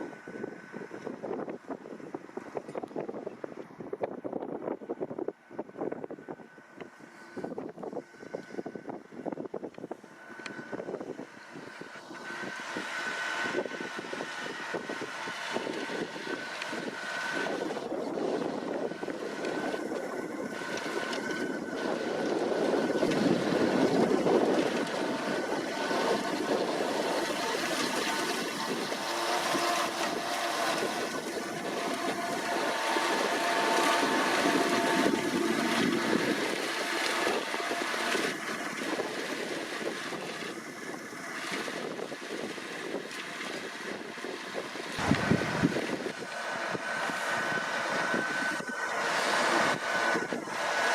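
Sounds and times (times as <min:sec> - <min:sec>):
tractor running under load: 0:09.8 - 0:50.9.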